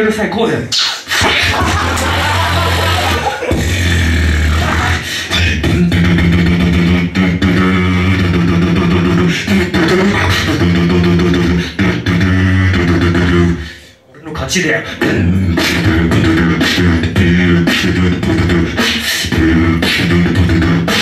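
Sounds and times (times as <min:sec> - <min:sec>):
beatboxing through speakers: 0:00.0 - 0:21.0
deep bass line: 0:01.2 - 0:13.6, 0:15.0 - 0:21.0.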